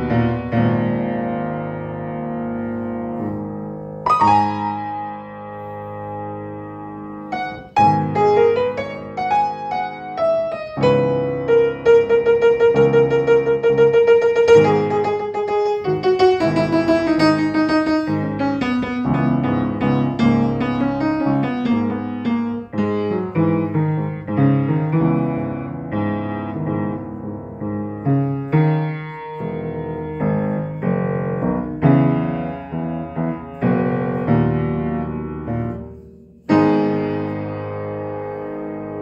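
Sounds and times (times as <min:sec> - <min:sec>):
upright piano playing: 0:00.0 - 0:39.0.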